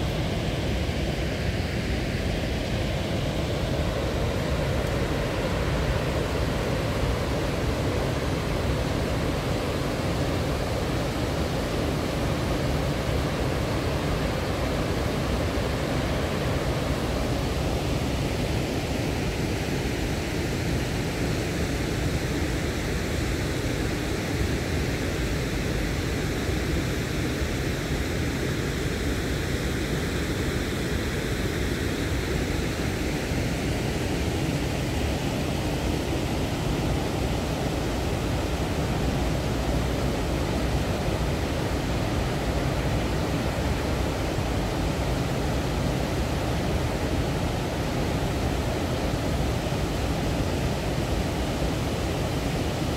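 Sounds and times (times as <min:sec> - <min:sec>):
water rushing over weir: 0:00.0 - 0:52.9.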